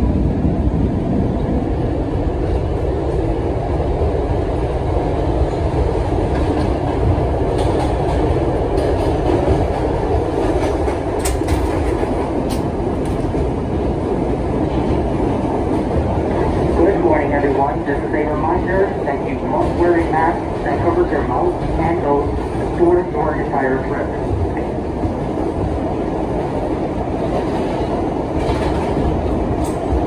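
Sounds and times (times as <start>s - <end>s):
subway train wheels rumbling: 0.0s - 30.0s.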